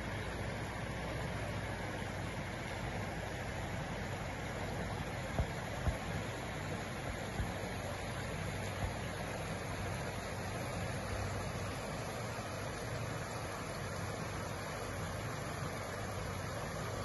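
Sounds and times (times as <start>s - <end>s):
engine humming with hiss: 0.0s - 17.0s.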